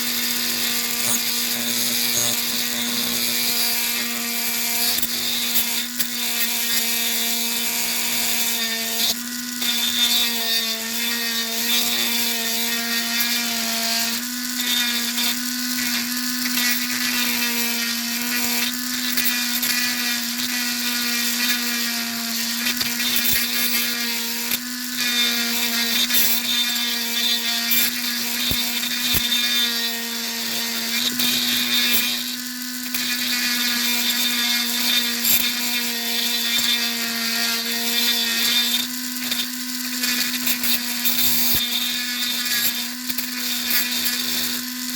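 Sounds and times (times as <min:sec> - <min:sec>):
rotary tool whining: 0:00.0 - 0:44.9.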